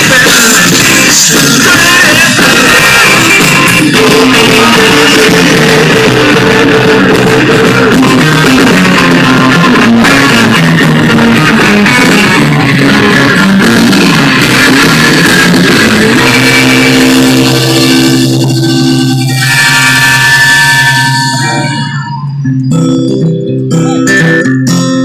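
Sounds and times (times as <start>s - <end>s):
instrumental rock music with guitar: 0.0s - 25.0s.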